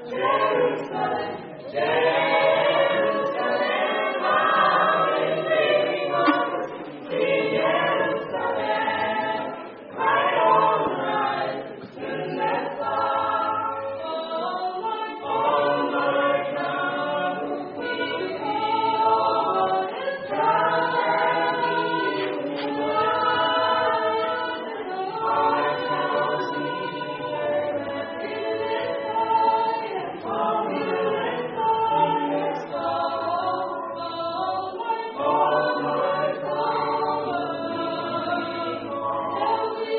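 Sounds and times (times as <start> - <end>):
vocal quartet singing a cappella: 0.0 - 39.9.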